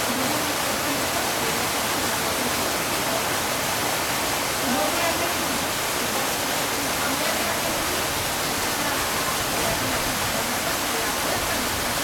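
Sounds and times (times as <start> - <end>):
water rushing down a slide: 0.0 - 12.0.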